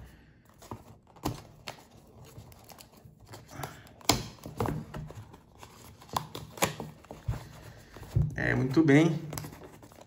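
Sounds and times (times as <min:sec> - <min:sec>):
cardboard rustling and scraping: 0:00.0 - 0:03.5, 0:04.3 - 0:10.0.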